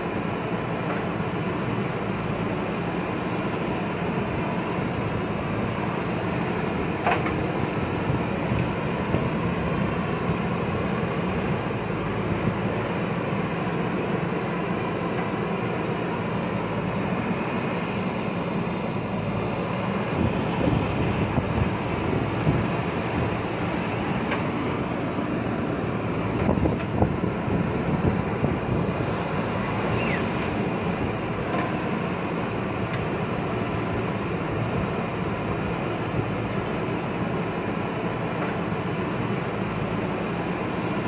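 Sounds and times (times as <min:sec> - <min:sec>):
diesel engine under load: 0:00.0 - 0:41.0
engine whine: 0:00.0 - 0:41.0.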